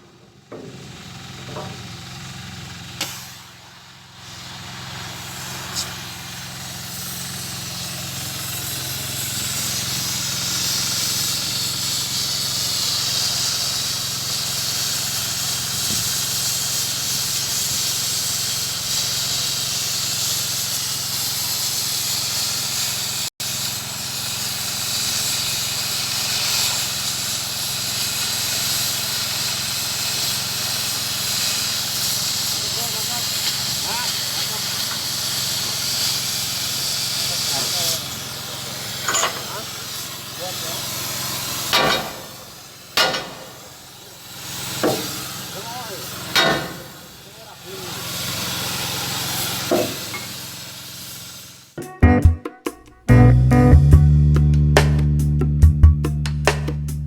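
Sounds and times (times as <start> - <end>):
steady hiss: 0.5 - 51.8.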